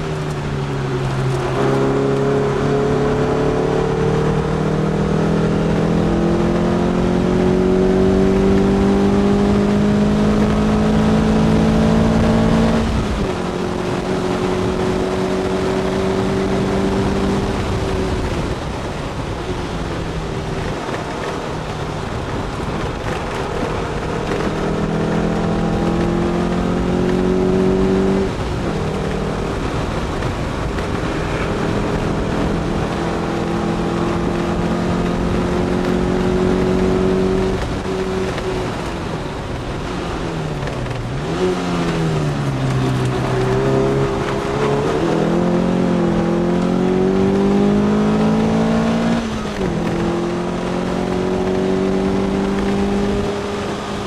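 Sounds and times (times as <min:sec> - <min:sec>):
car engine at high revs: 0:00.0 - 0:54.0
wind and road noise: 0:00.0 - 0:54.0.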